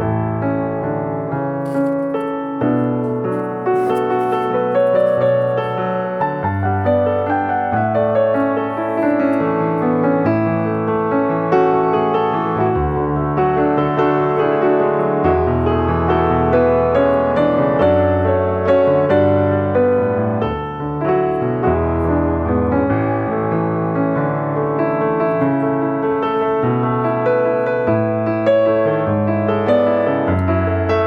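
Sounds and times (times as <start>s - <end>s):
instrumental piano music: 0.0s - 31.0s.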